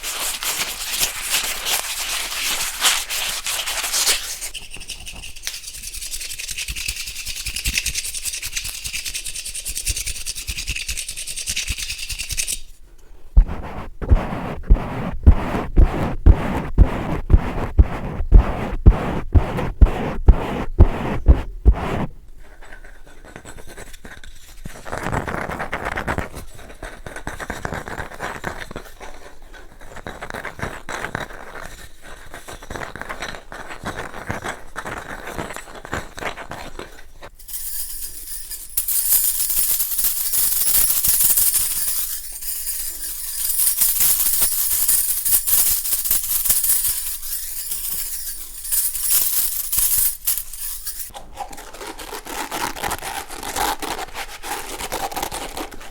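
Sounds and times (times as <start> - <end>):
objects scratched and rubbed: 0.0 - 55.9.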